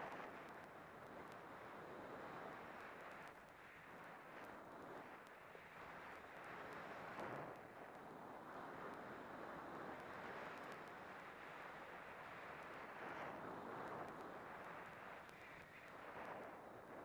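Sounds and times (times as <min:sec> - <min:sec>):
faint light ticks: 0:00.0 - 0:17.0.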